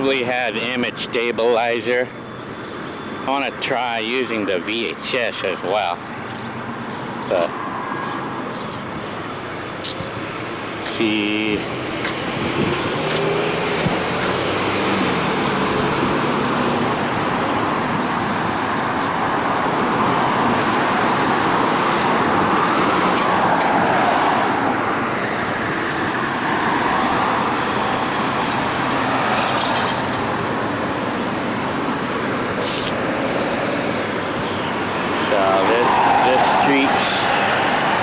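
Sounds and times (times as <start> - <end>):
passing cars: 0.0 - 38.0.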